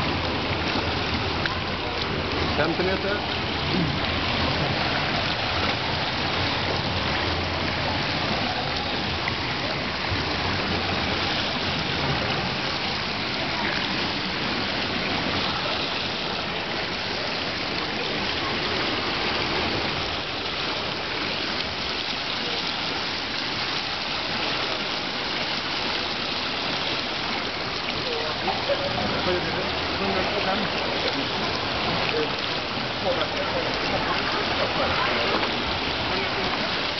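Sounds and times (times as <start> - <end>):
faint voices: 0.0 - 22.8, 26.3 - 36.9
water rushing: 0.0 - 36.9.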